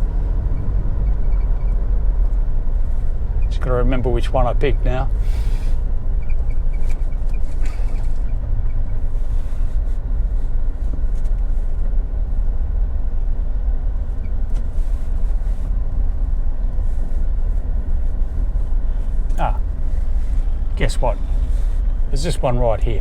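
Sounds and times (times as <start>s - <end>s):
vehicle engine and tyres rumbling: 0.0s - 23.0s.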